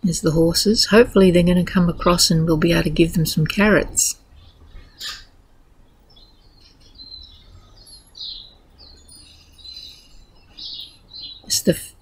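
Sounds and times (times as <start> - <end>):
faint low rumble: 0.0 - 11.4
birds chirping: 0.0 - 12.0.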